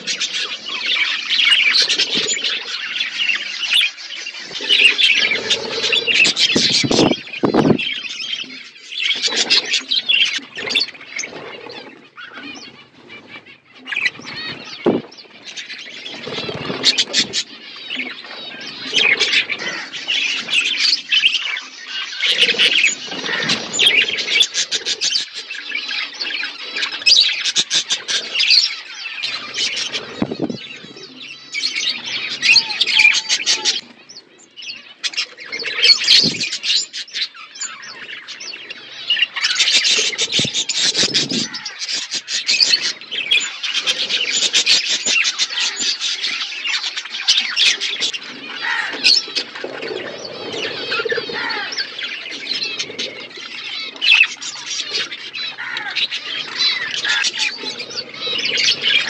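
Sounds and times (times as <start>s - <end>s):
budgerigars chattering and warbling: 0.0s - 59.0s.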